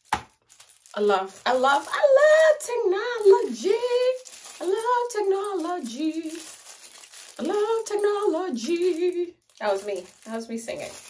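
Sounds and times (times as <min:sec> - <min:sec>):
woman singing: 0:01.0 - 0:06.5, 0:07.4 - 0:11.0.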